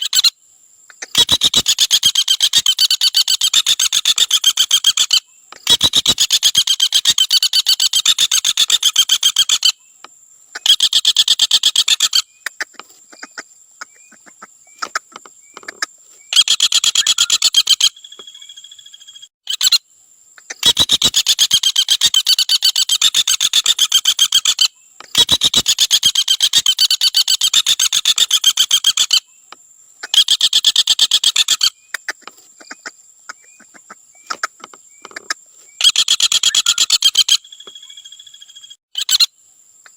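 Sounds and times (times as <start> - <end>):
woodpecker rattling trill: 1.0 - 19.8, 20.4 - 29.4, 30.0 - 39.3.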